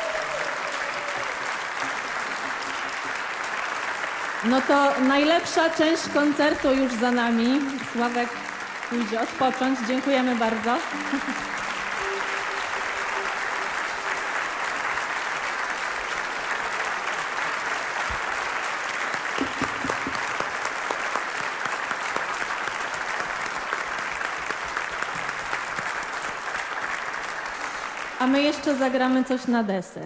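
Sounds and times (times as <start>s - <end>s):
audience applauding: 0.0s - 29.2s.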